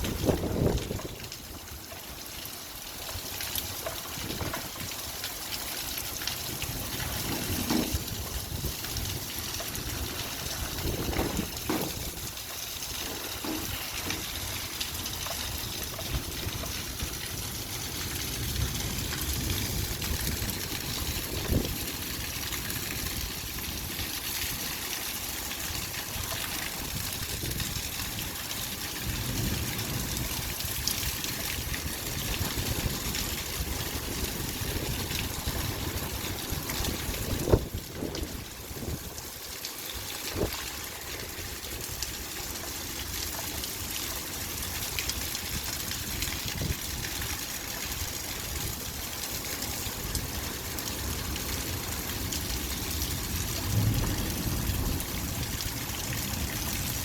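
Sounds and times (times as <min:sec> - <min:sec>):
light rain falling: 0:00.0 - 0:57.0
water drips: 0:00.0 - 0:57.0
water trickling: 0:00.0 - 0:57.0.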